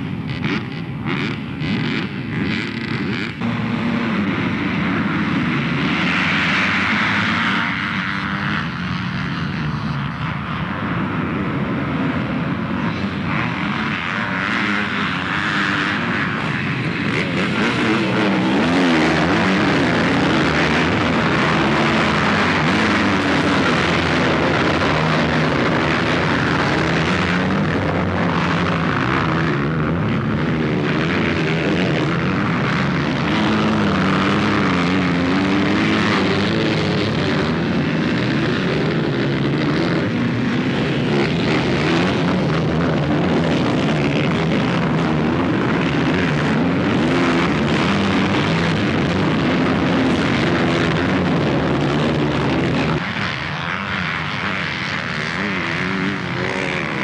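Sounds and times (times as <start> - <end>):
dirt bike engines at full throttle: 0.0 - 57.0.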